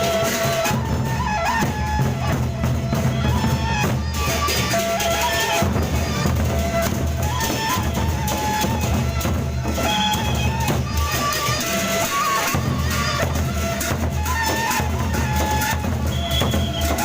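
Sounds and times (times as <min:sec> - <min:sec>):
large barrel drums beating: 0:00.0 - 0:17.0.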